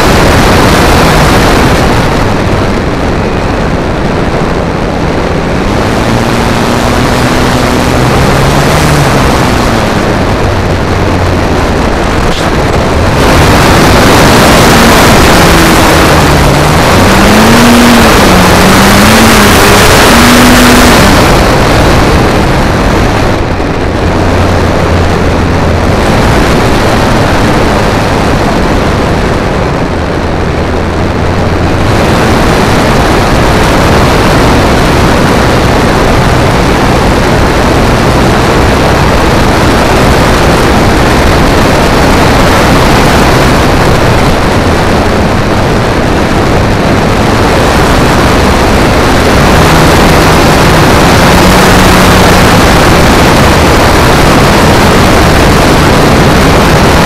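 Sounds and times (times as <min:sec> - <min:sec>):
motor and propeller drone: 0:00.0 - 0:57.0
rushing airflow noise: 0:00.0 - 0:57.0.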